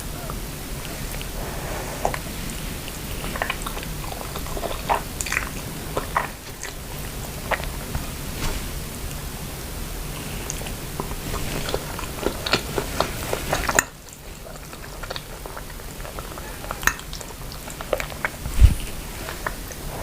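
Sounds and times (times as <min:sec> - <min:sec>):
chewing noodles: 0:00.0 - 0:08.4, 0:10.0 - 0:20.0
background hiss: 0:00.0 - 0:20.0.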